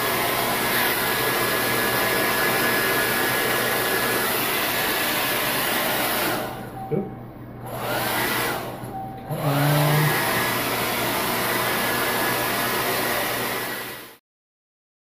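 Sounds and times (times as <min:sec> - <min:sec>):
hair dryer blowing: 0:00.0 - 0:06.8, 0:07.6 - 0:14.2.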